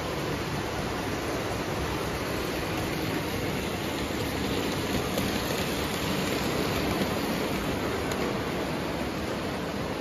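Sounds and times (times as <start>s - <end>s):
toy train rumbling on track: 0.0s - 10.0s.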